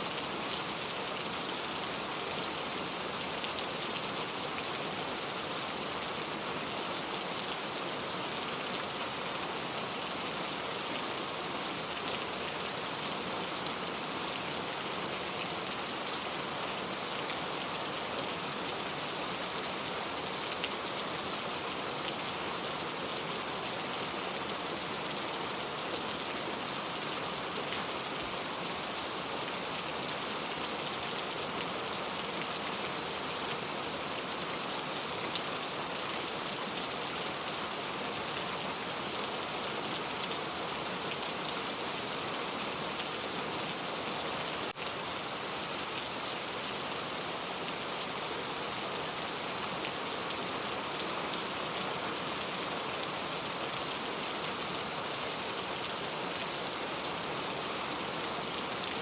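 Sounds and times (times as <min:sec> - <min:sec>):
dense rainfall: 0:00.0 - 0:59.0.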